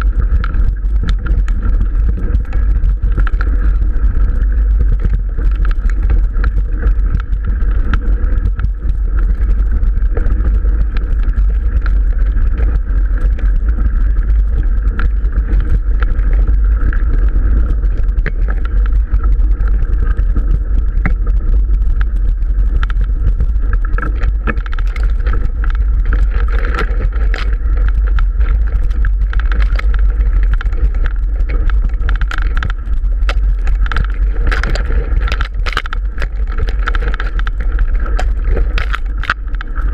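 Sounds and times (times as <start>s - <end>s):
bike shaking over rough ground: 0.0s - 39.9s
small rattles and ticks: 0.0s - 39.9s
wind buffeting microphone: 0.0s - 39.9s.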